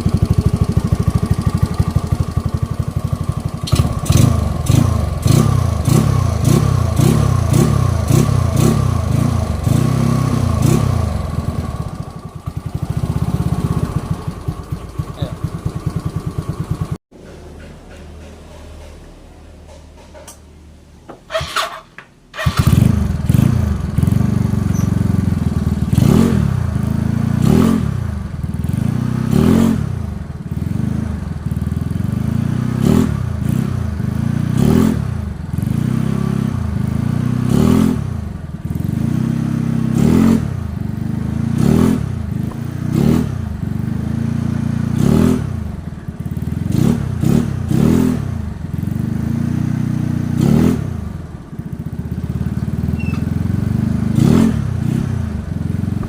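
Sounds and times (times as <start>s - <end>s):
scooter engine idling and revving: 0.0s - 20.4s, 21.3s - 56.0s.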